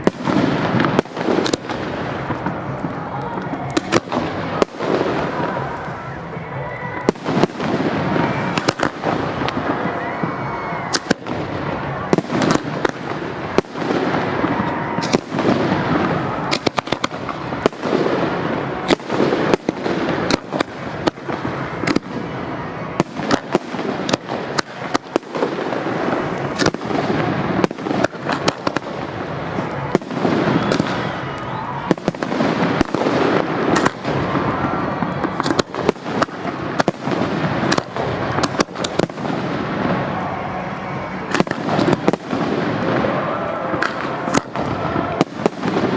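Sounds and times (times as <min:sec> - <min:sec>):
fireworks bangs and crackling: 0:00.0 - 0:45.9
fireworks rumble: 0:00.0 - 0:45.9.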